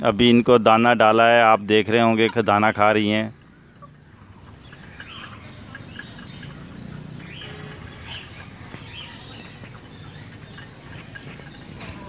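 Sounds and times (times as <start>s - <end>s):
chicks chirping: 1.4s - 12.0s.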